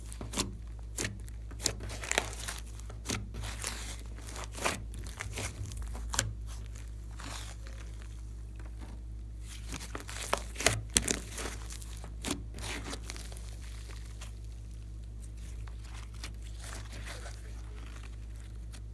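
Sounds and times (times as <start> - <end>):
slime crackling and popping: 0.0 - 18.9.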